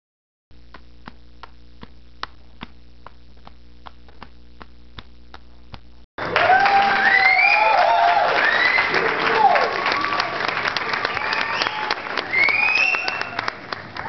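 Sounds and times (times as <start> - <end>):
low electrical hum: 0.5 - 14.0.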